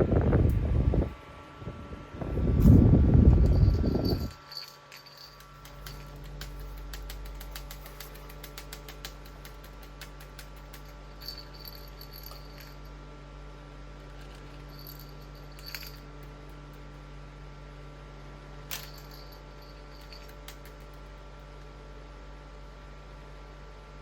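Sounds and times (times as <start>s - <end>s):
desktop fan humming: 0.0s - 24.0s.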